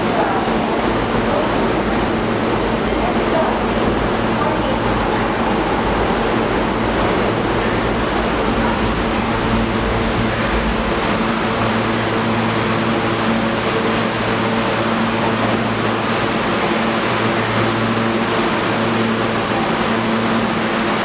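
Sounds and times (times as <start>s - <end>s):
air conditioning hum: 0.0s - 21.0s.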